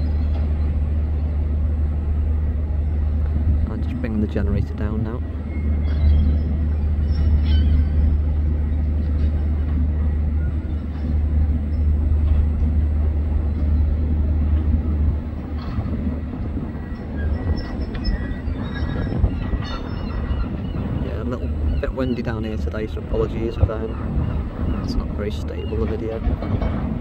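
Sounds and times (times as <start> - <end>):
construction machinery rumble: 0.0 - 27.0
wind on microphone: 0.0 - 27.0.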